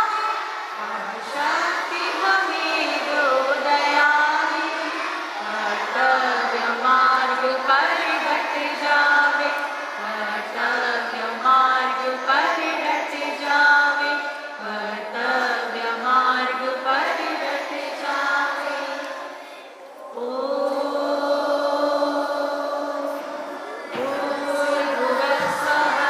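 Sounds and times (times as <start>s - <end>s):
group chanting in unison: 0.0s - 26.0s.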